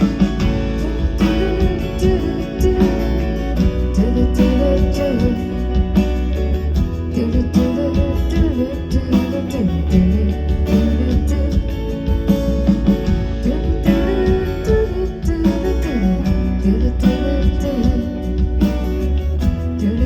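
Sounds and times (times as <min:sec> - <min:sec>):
bass: 0:00.0 - 0:20.0
gliding melodic line: 0:00.0 - 0:20.0
guitar: 0:00.0 - 0:20.0
steady beat: 0:00.0 - 0:20.0.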